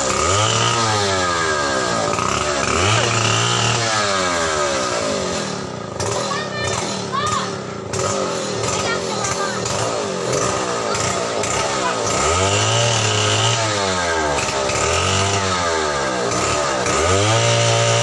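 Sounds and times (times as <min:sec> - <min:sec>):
chainsaw revving: 0:00.0 - 0:18.0.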